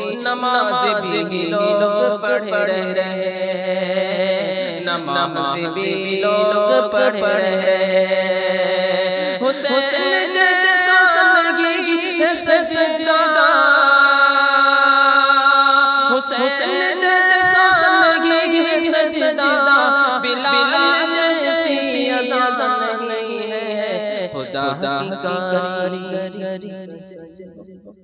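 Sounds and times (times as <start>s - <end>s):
man singing devotional song: 0.0s - 27.7s.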